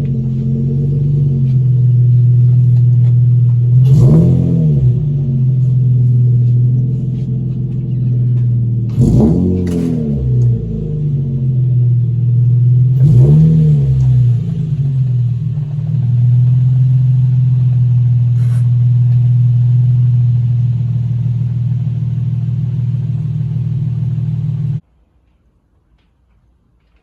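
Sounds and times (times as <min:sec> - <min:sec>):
car engine idling: 0:00.0 - 0:24.8.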